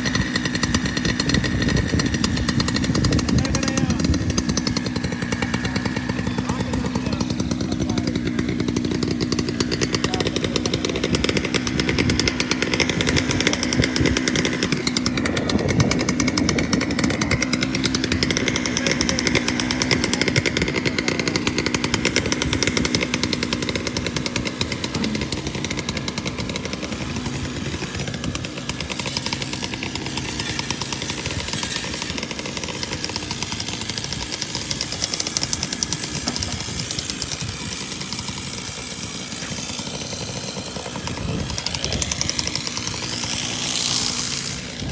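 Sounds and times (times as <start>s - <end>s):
small engine pulsing rattle: 0.0s - 44.9s.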